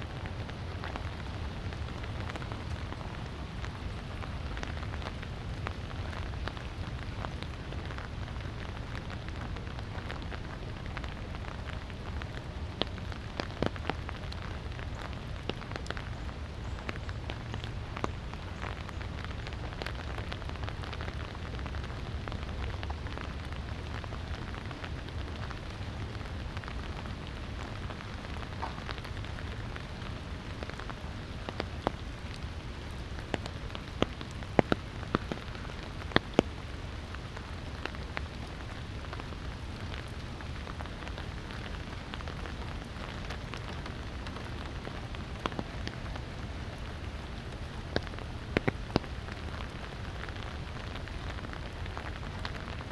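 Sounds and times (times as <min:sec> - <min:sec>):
light rain falling: 0:00.0 - 0:52.9
raindrops dripping and tapping: 0:00.0 - 0:52.9.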